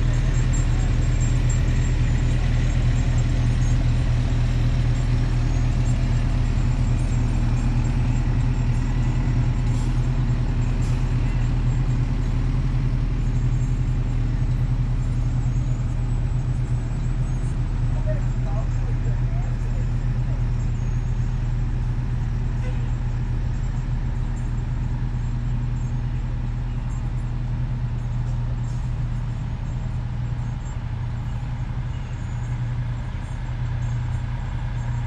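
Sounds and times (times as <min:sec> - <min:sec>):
low engine rumble: 0:00.0 - 0:35.0.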